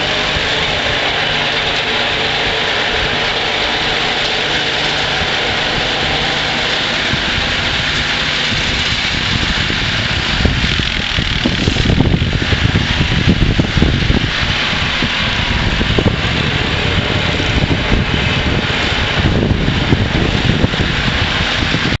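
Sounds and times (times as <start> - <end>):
garden tractor engine running: 0.0 - 22.0
uneven low rumble: 0.0 - 22.0.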